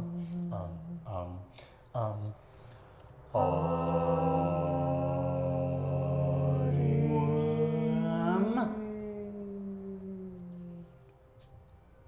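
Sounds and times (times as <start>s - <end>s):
chanted vocal drone: 0.0s - 11.3s.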